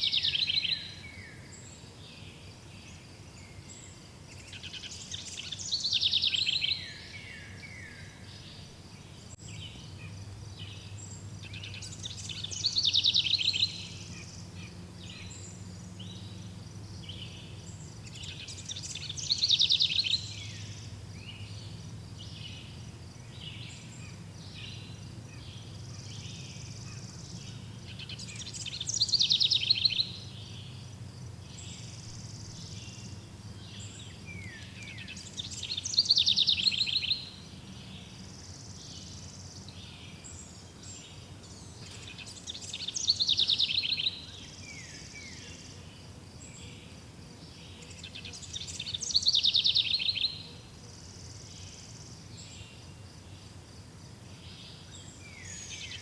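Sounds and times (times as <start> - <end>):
songbird trilling: 0.0 - 1.6, 2.9 - 8.6, 9.3 - 45.7, 47.8 - 50.5
insects chorus: 0.0 - 56.0.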